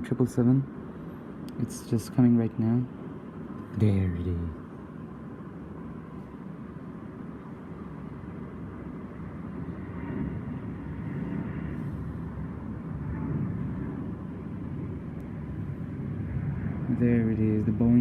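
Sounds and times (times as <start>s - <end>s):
airliner engines rumbling overhead: 0.0s - 18.0s.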